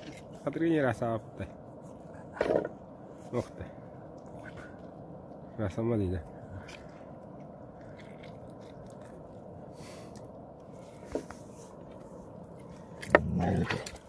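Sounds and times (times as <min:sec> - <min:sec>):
low background rush: 0:00.0 - 0:14.0.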